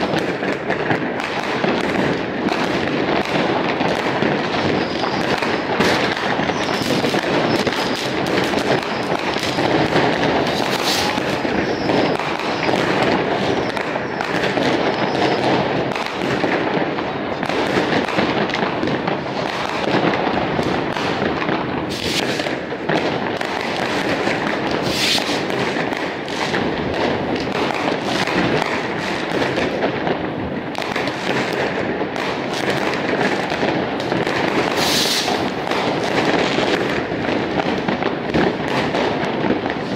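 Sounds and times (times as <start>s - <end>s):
dense fireworks crackle: 0.0s - 39.9s
loud firework bangs: 0.0s - 39.9s.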